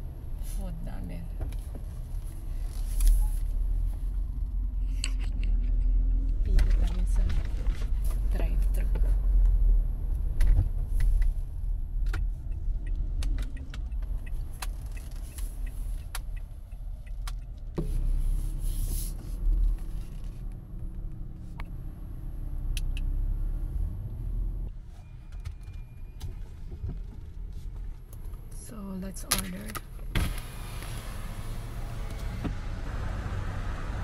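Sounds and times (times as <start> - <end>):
car engine low rumble: 0.0 - 34.0.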